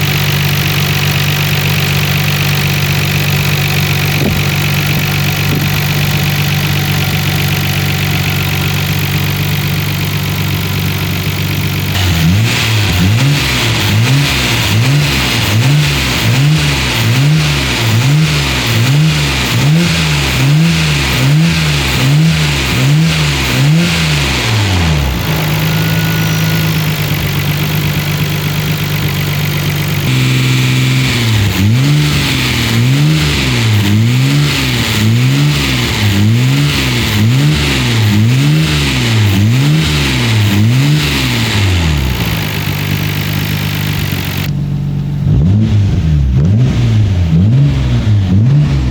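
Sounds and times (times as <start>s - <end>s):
car engine revving and idling: 0.0s - 48.9s.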